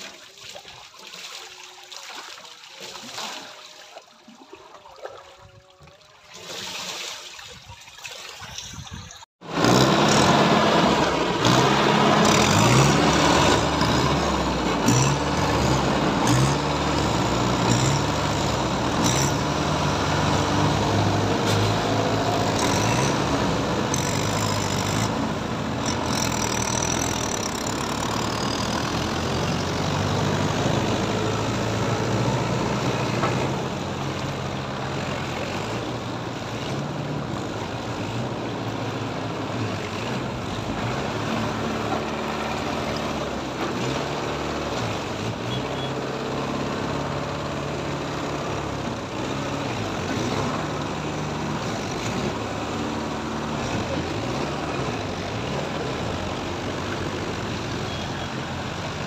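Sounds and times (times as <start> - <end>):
tractor diesel engines under load: 8.5 - 59.0.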